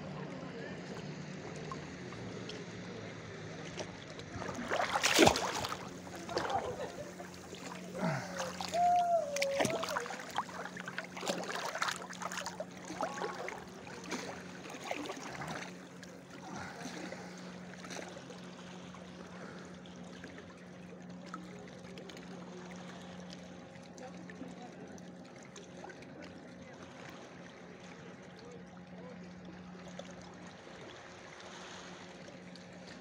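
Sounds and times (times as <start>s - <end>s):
steady low hum: 0.0s - 33.0s
sea water lapping: 0.3s - 33.0s
small splashes: 0.8s - 33.0s.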